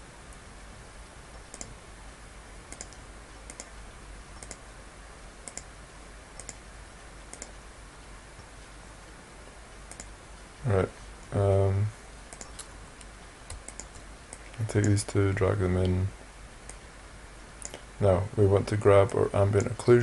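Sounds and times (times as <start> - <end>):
microphone hiss: 0.0 - 20.0.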